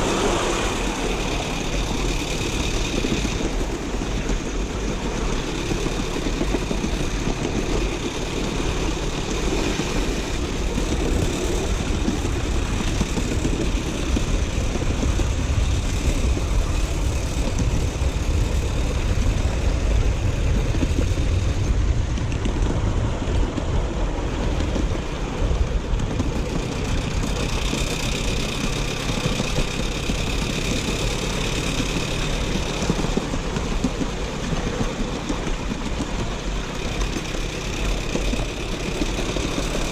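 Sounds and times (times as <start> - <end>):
miniature steam train rumbling: 0.0 - 39.9.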